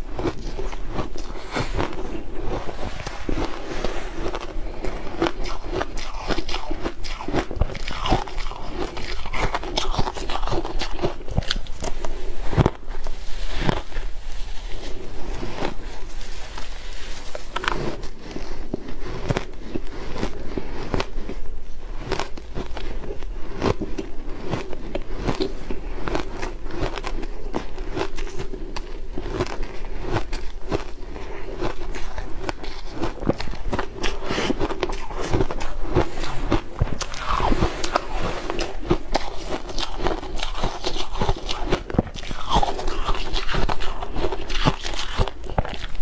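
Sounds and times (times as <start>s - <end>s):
ice crunching being chewed: 0.0s - 46.0s.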